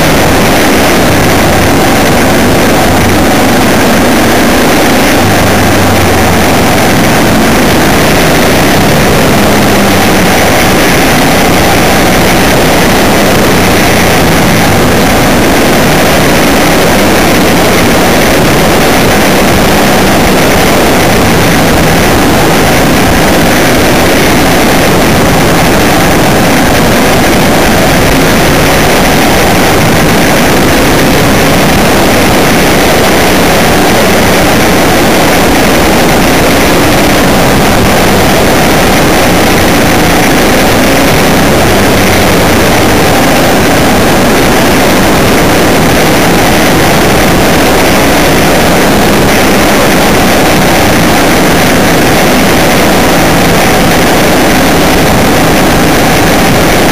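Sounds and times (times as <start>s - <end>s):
vehicle engine: 0.0s - 56.9s
wind noise on microphone: 0.0s - 56.9s.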